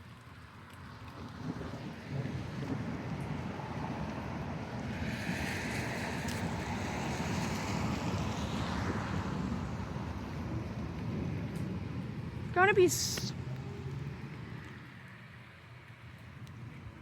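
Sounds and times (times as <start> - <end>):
wind buffeting microphone: 1.3 - 15.0.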